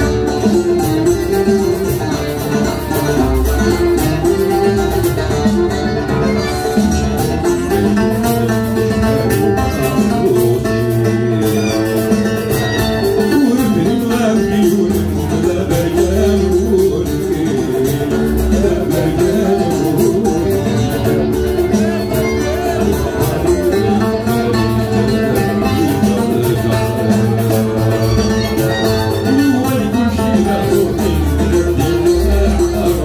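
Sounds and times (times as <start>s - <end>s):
plucked lute melody: 0.0s - 33.0s.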